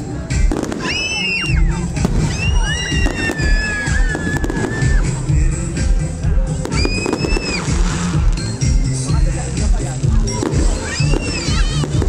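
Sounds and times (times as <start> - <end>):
music with bass beat: 0.0 - 12.0
fireworks bangs: 0.3 - 12.0
fireworks whistling: 0.3 - 12.0.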